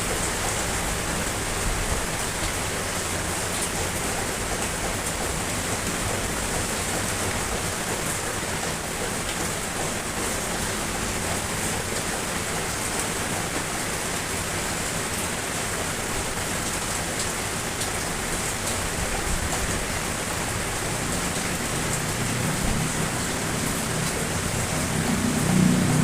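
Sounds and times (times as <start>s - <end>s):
steady rain hiss: 0.0s - 26.0s
raindrops tapping: 0.1s - 26.0s.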